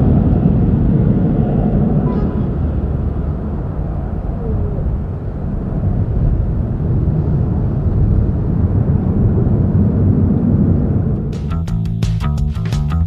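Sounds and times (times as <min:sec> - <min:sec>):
jet engines rumbling: 0:00.0 - 0:11.8.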